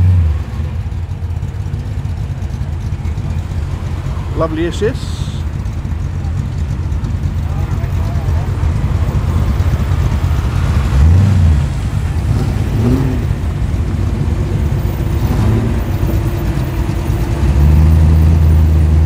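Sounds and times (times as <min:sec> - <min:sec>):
car engine idling with throttle blips: 0:00.0 - 0:19.0
deep engine rumble: 0:00.0 - 0:19.0.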